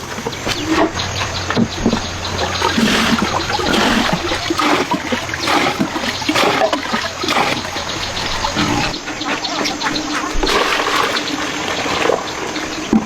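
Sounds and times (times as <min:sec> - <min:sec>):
water splashing and pouring: 0:00.0 - 0:09.0, 0:09.8 - 0:13.0.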